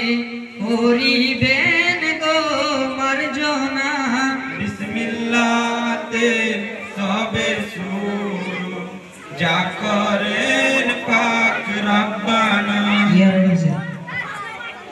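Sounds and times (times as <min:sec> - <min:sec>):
men chanting together: 0:00.6 - 0:13.3.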